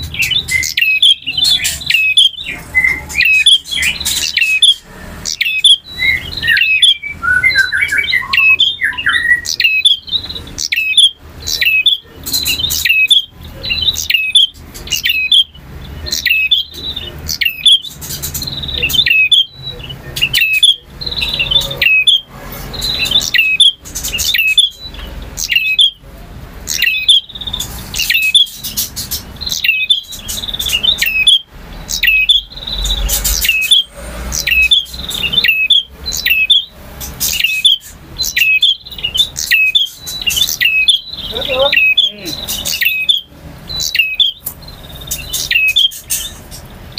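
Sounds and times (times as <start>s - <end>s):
bird chirping rapidly: 0.0s - 46.9s.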